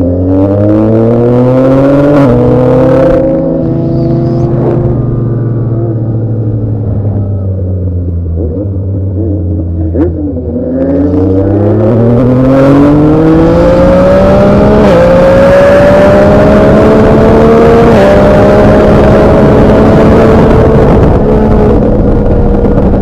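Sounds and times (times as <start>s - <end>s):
sport motorcycle engine revving: 0.0s - 7.2s, 8.2s - 22.1s.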